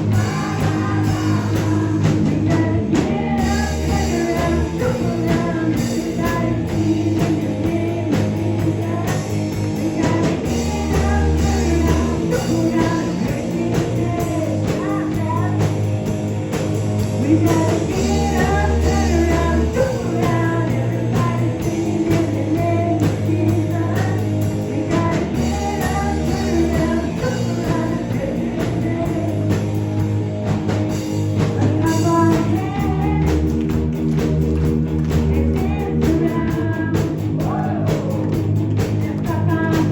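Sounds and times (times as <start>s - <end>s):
person singing: 0.0s - 15.8s, 17.2s - 29.8s, 31.5s - 33.7s, 35.1s - 39.9s
guitar: 0.0s - 39.9s
steady bass line: 0.0s - 39.9s.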